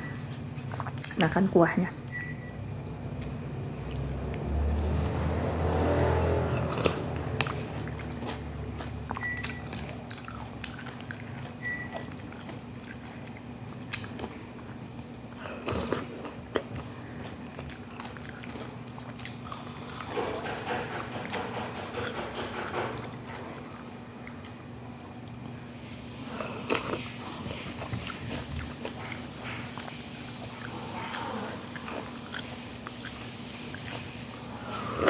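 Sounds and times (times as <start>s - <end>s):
person chewing noodles: 0.0s - 1.2s, 2.8s - 35.0s.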